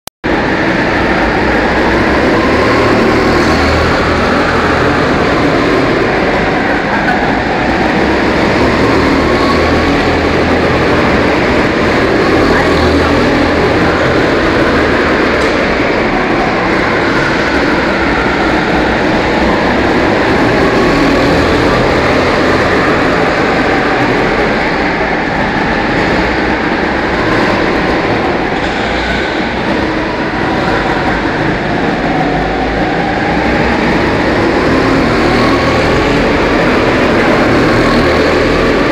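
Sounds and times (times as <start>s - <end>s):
go-kart engines revving: 0.3s - 38.9s.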